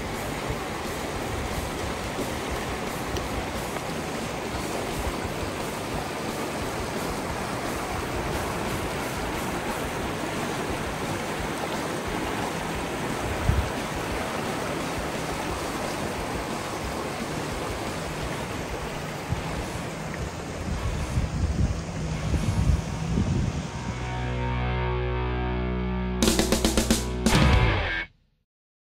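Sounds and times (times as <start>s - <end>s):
river rushing over rocks: 0.0s - 23.2s.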